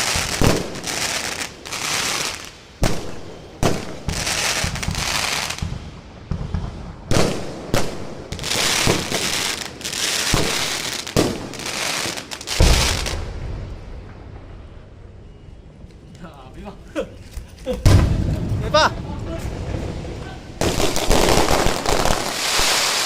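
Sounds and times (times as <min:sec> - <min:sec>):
fireworks crackling fizz: 0:00.0 - 0:14.4, 0:17.3 - 0:23.0
fireworks bangs: 0:00.0 - 0:15.7, 0:17.6 - 0:23.0.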